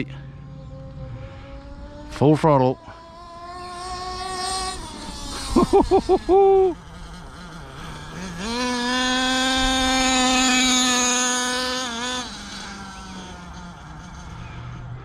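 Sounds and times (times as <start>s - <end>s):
model nitro engine revving: 0.5s - 15.0s.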